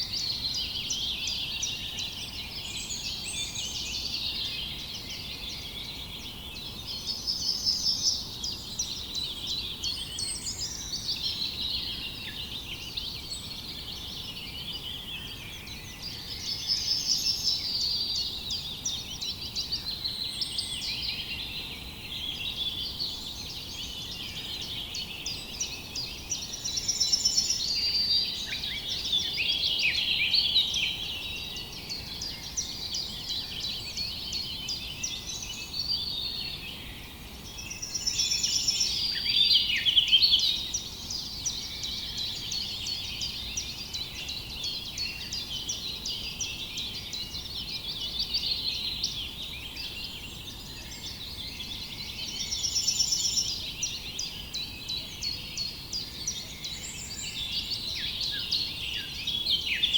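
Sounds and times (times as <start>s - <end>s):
small birds chirping and trilling: 0.0s - 59.9s.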